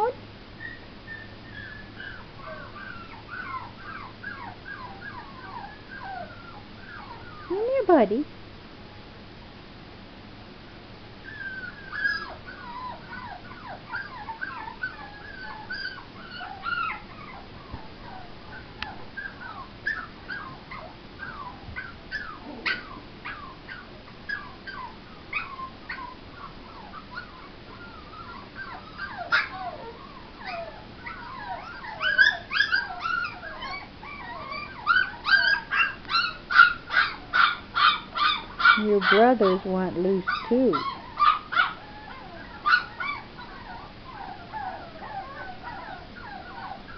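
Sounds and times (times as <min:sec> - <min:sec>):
puppies whining and yipping: 0:00.0 - 0:07.8, 0:11.2 - 0:46.9.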